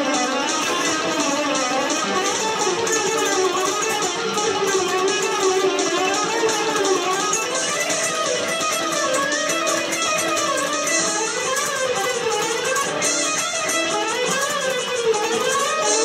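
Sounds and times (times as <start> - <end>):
guitar instrumental music: 0.0 - 16.0.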